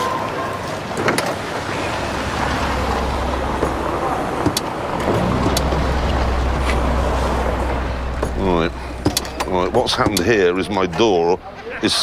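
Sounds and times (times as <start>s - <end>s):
car engine humming: 1.6s - 11.5s.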